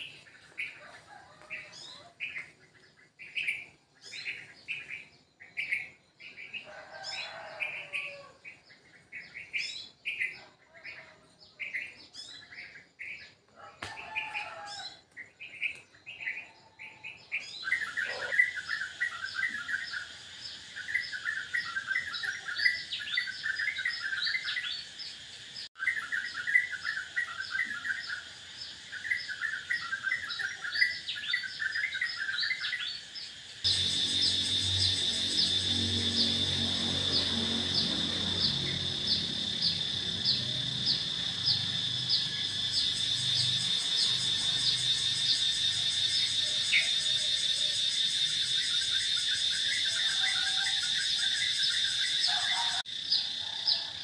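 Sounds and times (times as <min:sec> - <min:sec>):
birds chirping: 0:00.0 - 0:24.9, 0:25.9 - 0:49.1.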